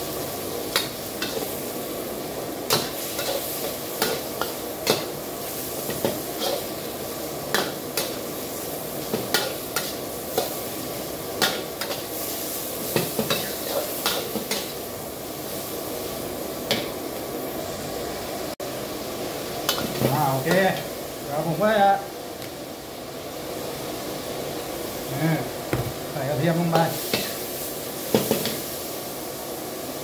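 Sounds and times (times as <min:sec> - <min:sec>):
pork sizzling in a wok: 0:00.0 - 0:30.0.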